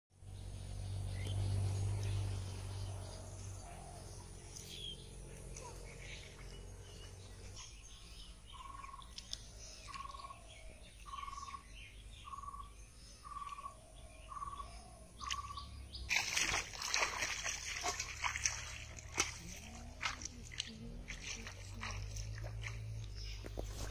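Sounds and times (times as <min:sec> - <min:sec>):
birds chirping: 0:00.2 - 0:23.9
low steady hum: 0:00.2 - 0:23.9.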